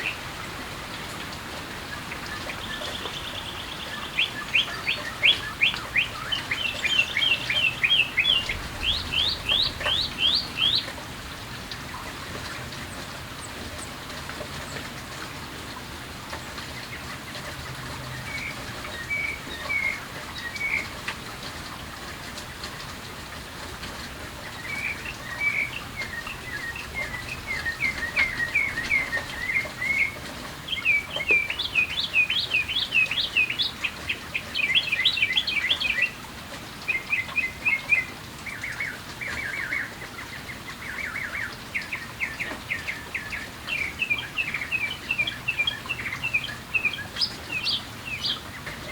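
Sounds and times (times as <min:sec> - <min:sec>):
light rain hiss: 0:00.0 - 0:48.9
songbirds chirping: 0:00.0 - 0:48.9.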